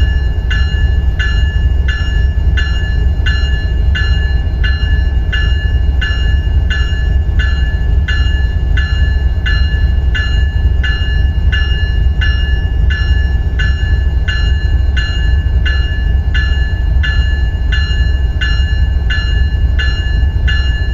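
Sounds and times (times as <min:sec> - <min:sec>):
locomotive electronic bell ringing: 0:00.0 - 0:20.9.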